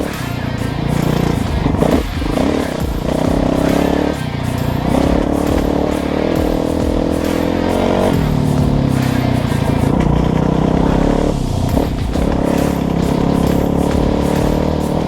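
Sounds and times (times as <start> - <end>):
dirt bike engine under throttle: 0.0 - 15.0.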